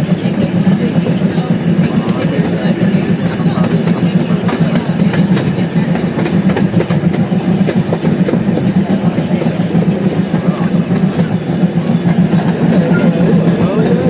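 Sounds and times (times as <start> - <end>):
miniature train rumbling on track: 0.0 - 14.0
wheels clicking and rattling: 0.0 - 14.0.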